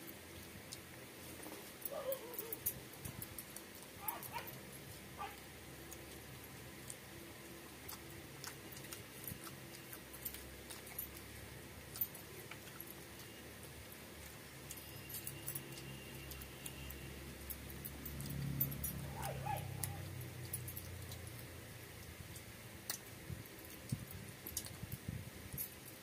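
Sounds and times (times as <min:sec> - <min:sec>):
chewing and lip smacks: 0:00.3 - 0:26.0.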